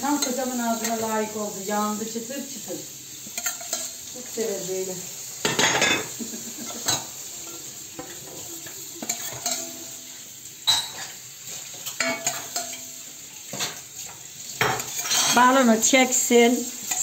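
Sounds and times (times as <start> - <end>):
syrup sizzling and crackling: 0.0 - 17.0.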